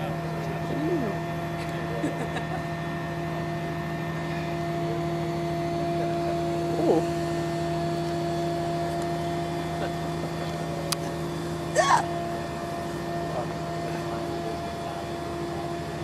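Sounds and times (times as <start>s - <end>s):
fire truck engine and hydraulics hum: 0.0s - 16.0s.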